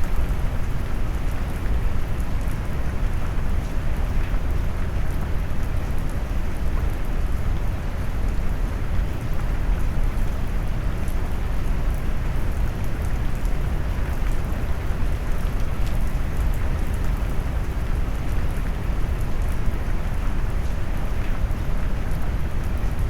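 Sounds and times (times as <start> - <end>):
faint raindrop ticks: 0.0 - 23.0.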